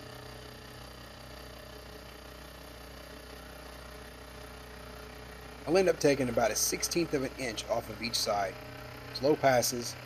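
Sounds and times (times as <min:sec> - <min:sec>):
milling machine humming: 0:00.0 - 0:10.0.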